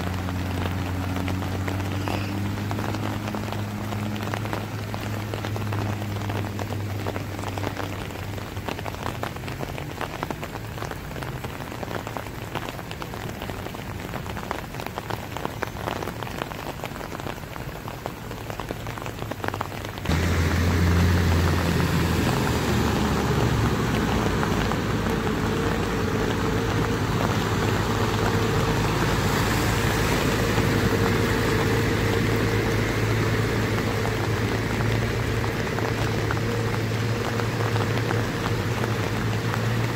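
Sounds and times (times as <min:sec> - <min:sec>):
heavy rain pattering: 0:00.0 - 0:39.9
vehicle engine hum: 0:00.0 - 0:39.9.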